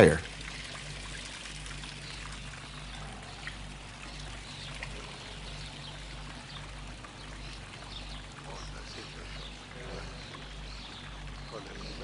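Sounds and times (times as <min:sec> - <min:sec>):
water pouring and trickling: 0:00.0 - 0:12.0.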